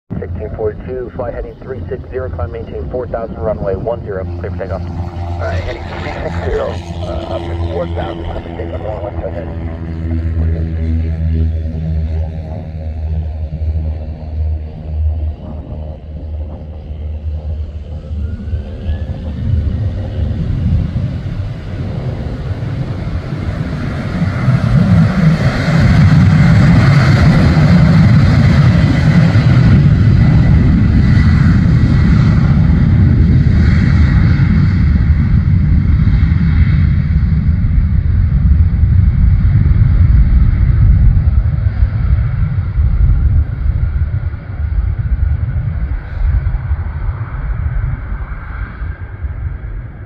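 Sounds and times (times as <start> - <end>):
jet engines at takeoff power: 0.1 - 50.0.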